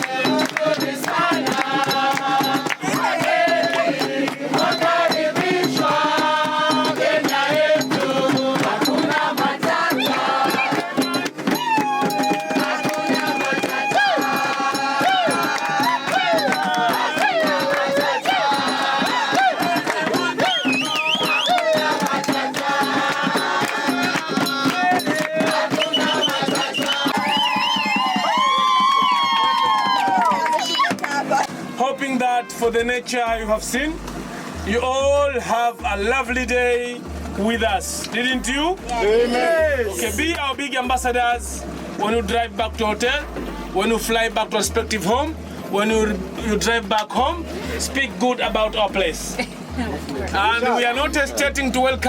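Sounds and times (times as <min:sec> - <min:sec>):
several voices singing: 0:00.0 - 0:28.2, 0:33.3 - 0:52.0
percussion with steady beat: 0:00.0 - 0:52.0.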